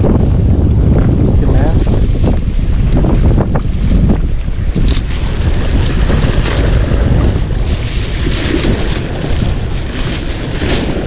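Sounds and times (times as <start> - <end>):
sea surf washing: 0.0 - 11.0
wind buffeting microphone: 0.0 - 11.0.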